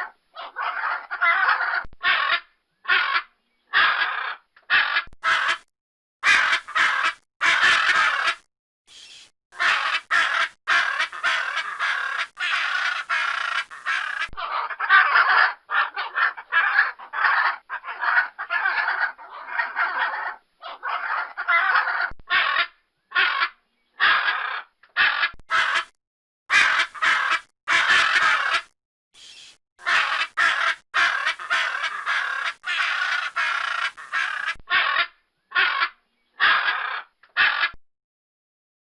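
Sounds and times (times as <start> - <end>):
macaw squawking: 0.0 - 8.4, 9.0 - 25.9, 26.5 - 37.8.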